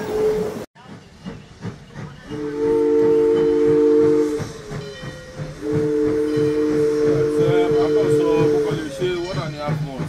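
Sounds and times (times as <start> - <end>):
steam locomotive chime whistle: 0.0 - 0.7, 2.2 - 10.0
running train low beat: 0.0 - 10.0.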